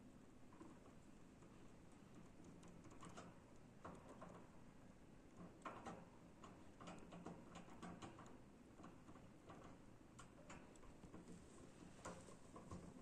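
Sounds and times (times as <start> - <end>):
hamster gnawing crunching clicks: 0.5 - 4.7, 5.3 - 13.0.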